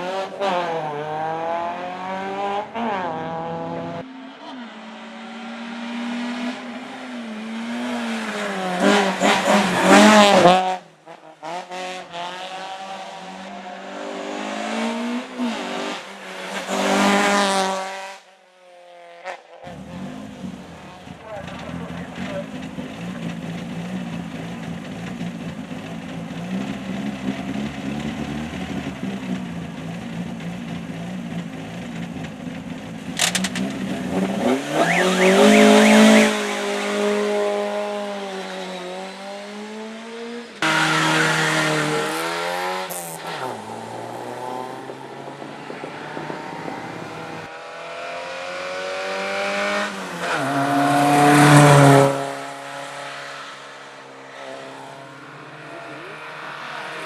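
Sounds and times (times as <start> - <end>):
race car engines revving: 0.0 - 18.2, 19.7 - 57.0.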